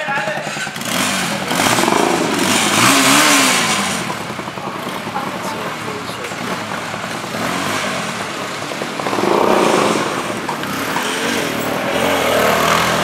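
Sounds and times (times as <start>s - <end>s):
vehicles passing by: 0.0s - 13.0s.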